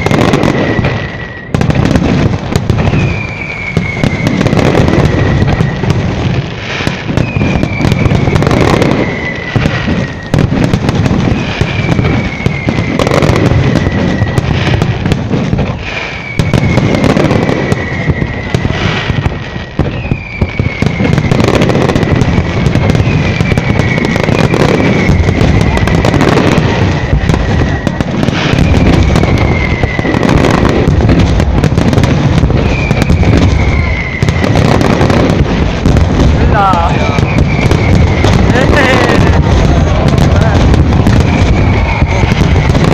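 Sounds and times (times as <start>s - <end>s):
firework whistle sliding down: 0.0s - 1.8s, 2.7s - 35.5s, 36.4s - 42.9s
fireworks booming and crackling: 0.0s - 42.9s.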